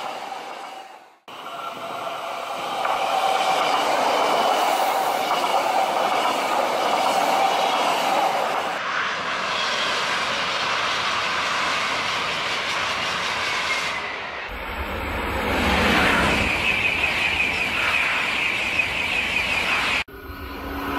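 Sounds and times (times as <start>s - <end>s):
high-speed trains passing: 0.0s - 20.9s.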